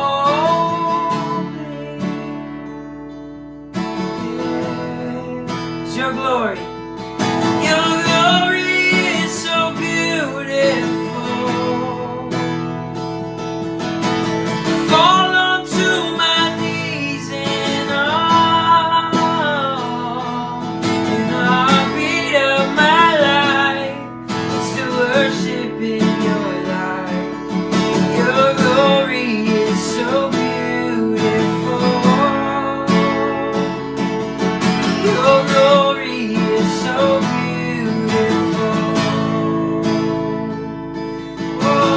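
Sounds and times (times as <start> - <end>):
person singing: 0.0 - 12.8, 14.5 - 41.9
strummed acoustic guitar: 0.0 - 41.9.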